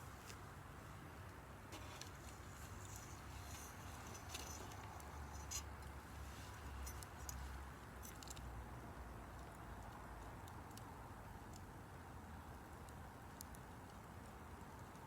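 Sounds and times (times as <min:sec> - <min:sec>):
campfire crackling: 0:00.0 - 0:08.6, 0:09.3 - 0:15.0.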